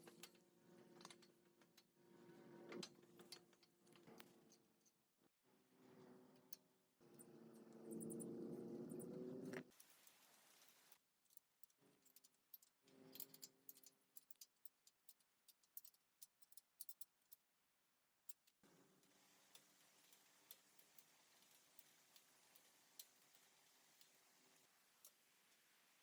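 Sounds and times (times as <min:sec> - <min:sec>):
faint ticks and clicks: 0:00.0 - 0:05.3, 0:06.0 - 0:26.0.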